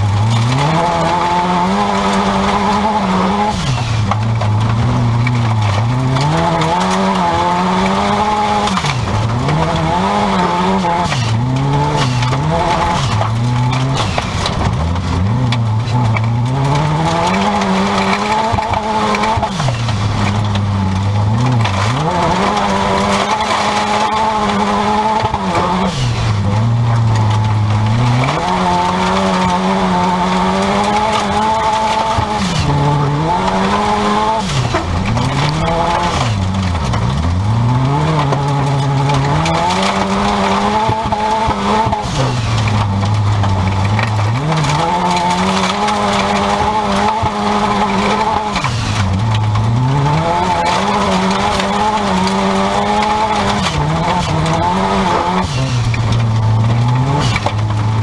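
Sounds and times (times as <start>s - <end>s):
race car engine revving: 0.0s - 58.0s
tyre and dirt-track rush: 0.0s - 58.0s.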